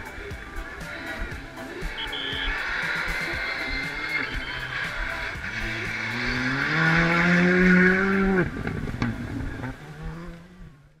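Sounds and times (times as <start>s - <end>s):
rally car engine accelerating: 2.0s - 11.0s.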